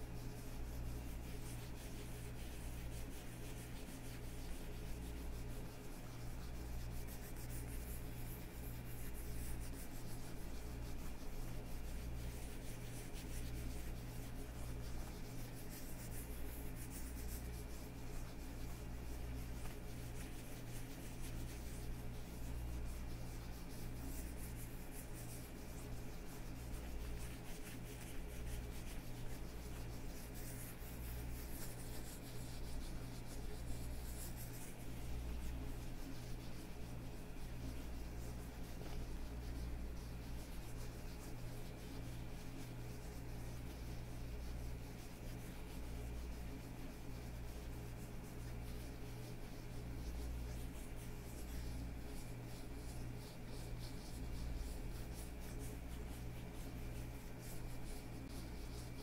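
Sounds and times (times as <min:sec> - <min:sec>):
leather gloves rubbing: 0:00.0 - 0:59.0.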